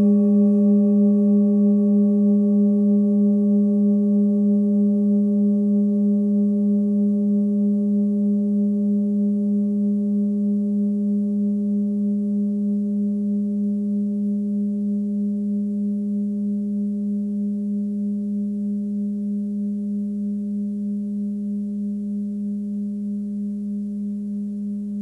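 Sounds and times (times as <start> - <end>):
singing bowl ringing: 0.0 - 25.0.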